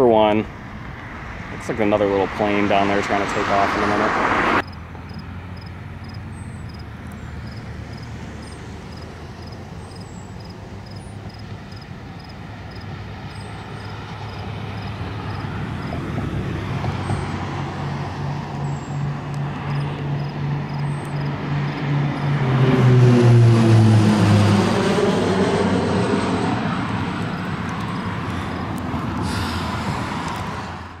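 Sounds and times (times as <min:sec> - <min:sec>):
propeller airplane engine drone: 0:00.0 - 0:31.0.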